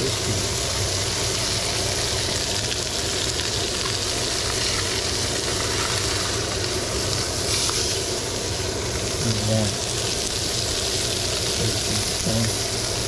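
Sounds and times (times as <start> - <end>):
fish fillet sizzling on grill: 0.0 - 13.0.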